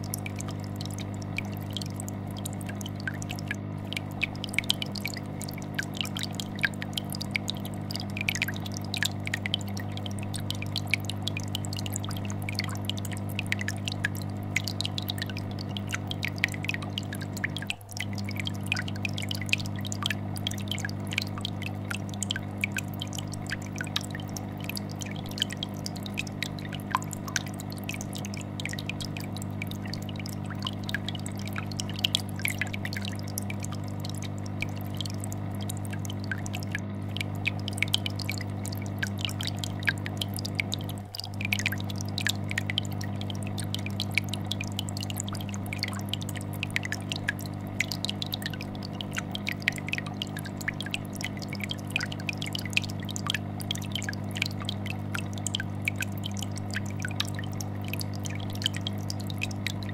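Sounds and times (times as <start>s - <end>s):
aquarium bubbles popping: 0.0s - 59.9s
fish tank filter humming: 0.0s - 59.9s.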